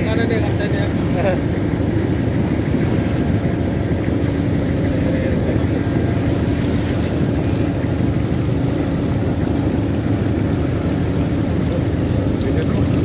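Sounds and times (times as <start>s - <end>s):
boat engine droning: 0.0s - 13.0s
rushing wind: 0.0s - 13.0s
water noise: 0.0s - 13.0s.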